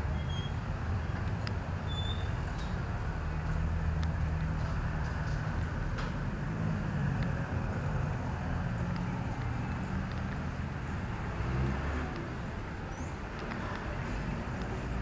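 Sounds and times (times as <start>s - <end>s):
street traffic: 0.0s - 15.0s
vehicle engine humming: 0.0s - 15.0s.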